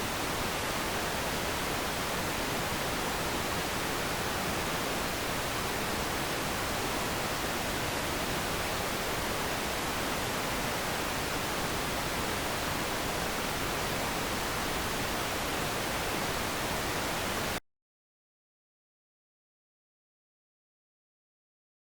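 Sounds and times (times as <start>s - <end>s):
static hiss: 0.0s - 17.6s.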